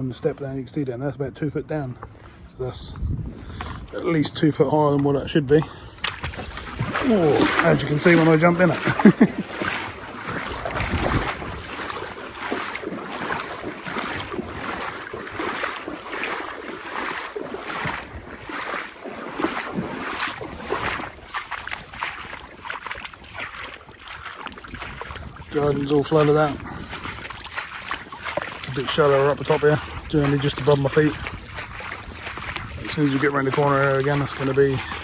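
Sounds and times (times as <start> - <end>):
legs wading through water: 5.5 - 35.0.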